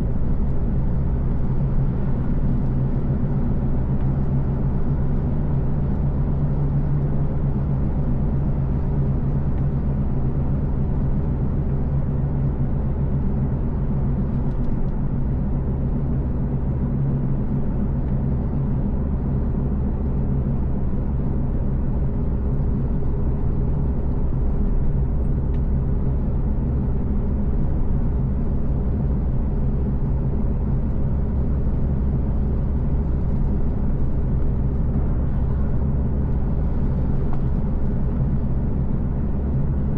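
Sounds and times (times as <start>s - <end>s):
car engine hum: 0.0s - 39.9s
road and tyre rumble: 0.0s - 39.9s.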